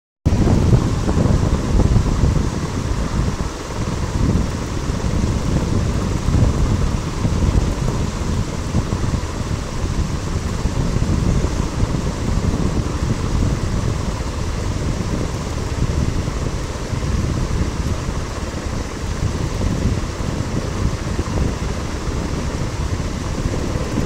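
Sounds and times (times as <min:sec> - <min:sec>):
heavy rain on pavement: 0:00.3 - 0:24.0.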